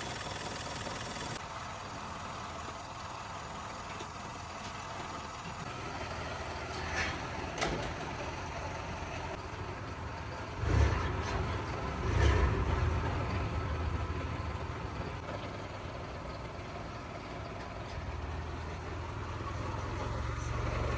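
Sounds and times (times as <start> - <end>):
engine rumbling: 0.0 - 20.9.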